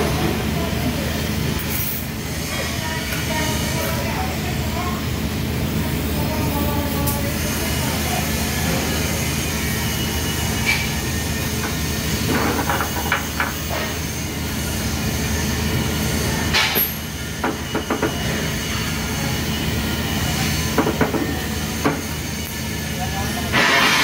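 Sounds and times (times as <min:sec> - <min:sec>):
workshop machinery hum: 0:00.0 - 0:24.0.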